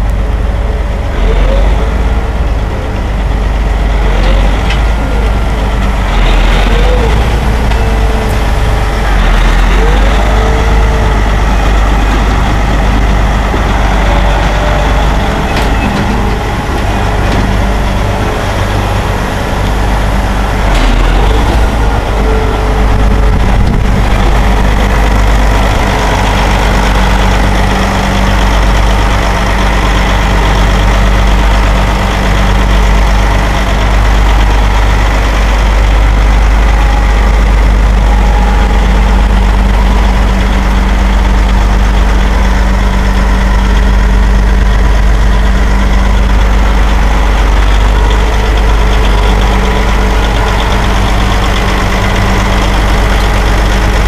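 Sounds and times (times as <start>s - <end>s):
tractor diesel engine rumbling: 0.0s - 54.0s.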